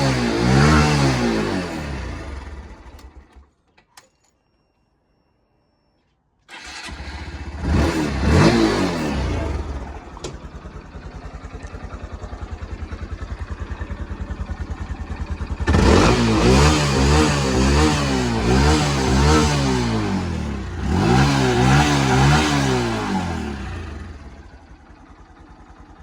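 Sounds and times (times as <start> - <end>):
motorcycle engine revving and idling: 0.0 - 3.5, 6.5 - 26.0.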